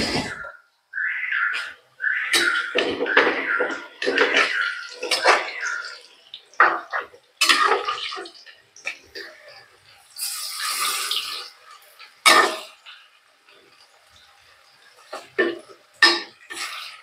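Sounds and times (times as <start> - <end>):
food deep-frying in oil: 2.1 - 17.0.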